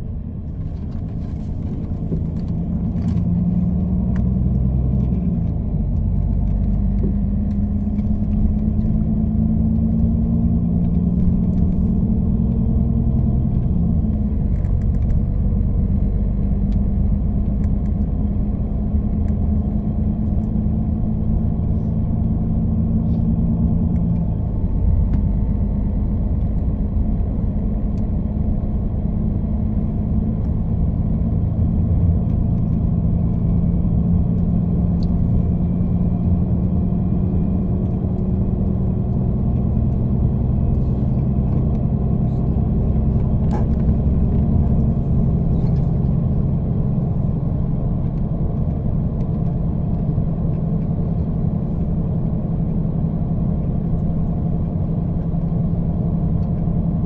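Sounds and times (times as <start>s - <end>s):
coach engine drone: 0.0s - 57.0s
road rumble: 0.0s - 57.0s.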